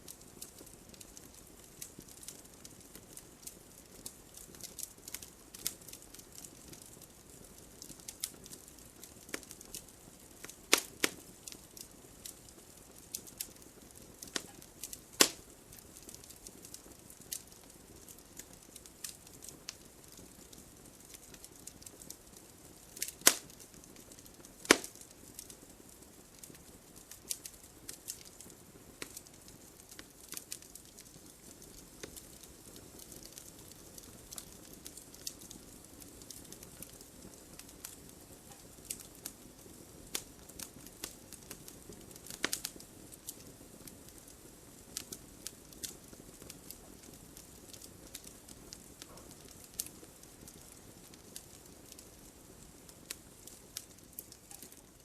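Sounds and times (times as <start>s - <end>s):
faint steady hiss: 0.0s - 55.0s
wood fire crackling and popping: 0.0s - 55.0s.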